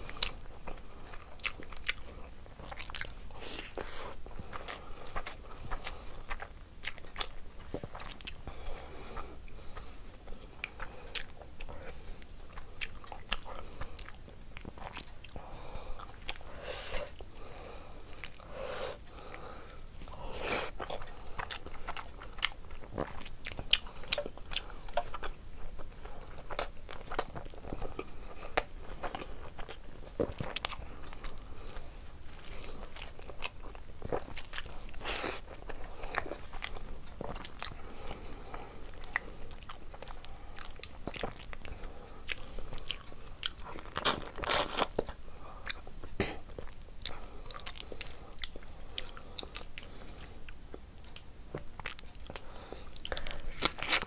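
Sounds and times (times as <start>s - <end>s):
wet chewing and lip smacking: 0.1s - 54.0s.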